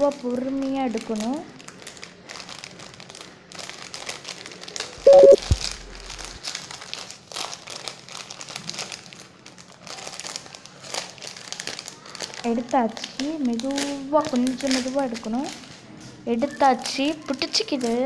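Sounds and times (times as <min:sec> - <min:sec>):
plastic sheet crinkling: 0:00.0 - 0:15.8, 0:16.4 - 0:18.0.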